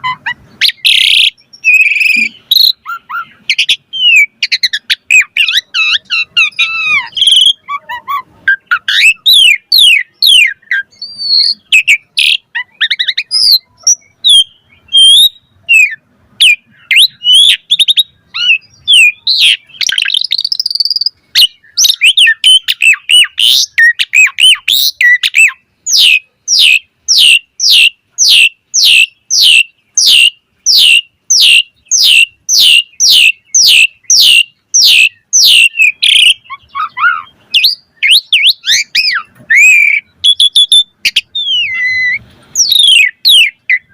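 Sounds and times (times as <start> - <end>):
starling whistling and chirping: 0.0 - 43.9.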